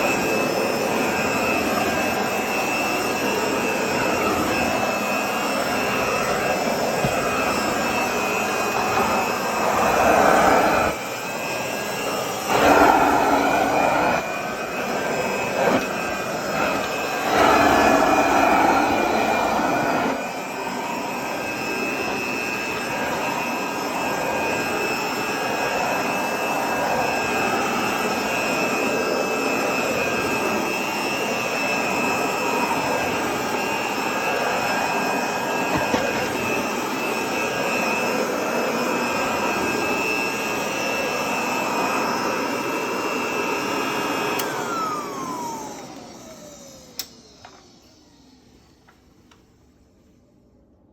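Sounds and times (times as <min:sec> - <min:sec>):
vacuum cleaner whining: 0:00.0 - 0:50.9.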